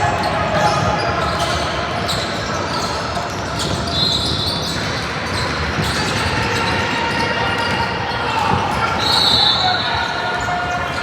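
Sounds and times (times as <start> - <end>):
hubbub of spectators and players: 0.0 - 11.0.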